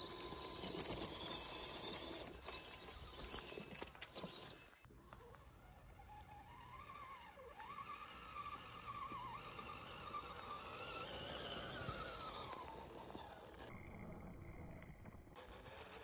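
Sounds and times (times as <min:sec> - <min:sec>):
rc truck motor and gear whine: 0:00.0 - 0:16.0.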